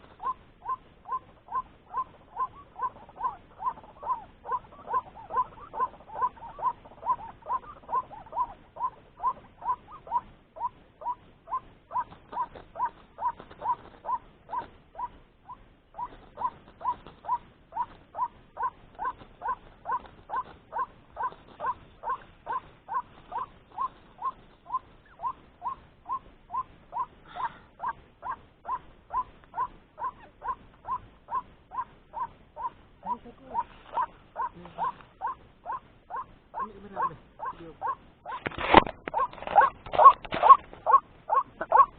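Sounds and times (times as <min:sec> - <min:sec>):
fainter lower bird call: 0:00.0 - 0:41.9
waterhen calling: 0:00.0 - 0:41.9.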